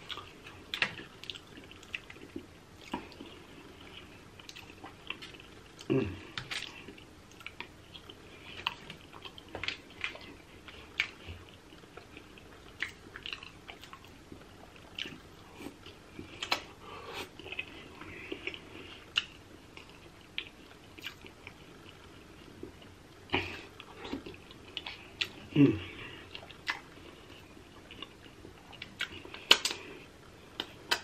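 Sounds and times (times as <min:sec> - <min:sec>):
wet chewing and lip smacking: 0:00.0 - 0:25.5, 0:26.2 - 0:31.0.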